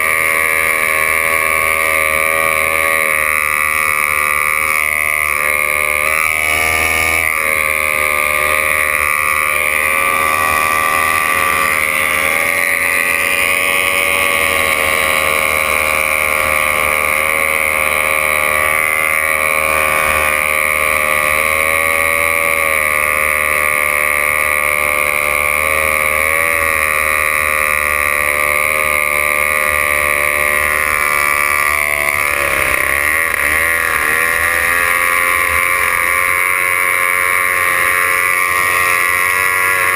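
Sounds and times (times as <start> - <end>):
racing outboard engine at high revs: 0.0 - 39.9.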